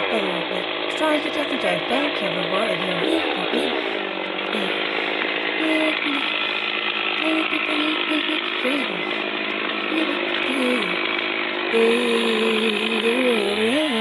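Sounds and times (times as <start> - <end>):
chainsaw running under load: 0.0 - 14.0.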